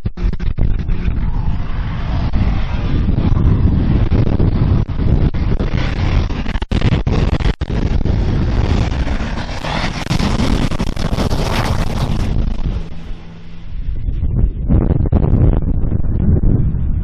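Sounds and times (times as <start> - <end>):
truck engine at full throttle: 0.0 - 17.0
wind buffeting microphone: 0.0 - 17.0.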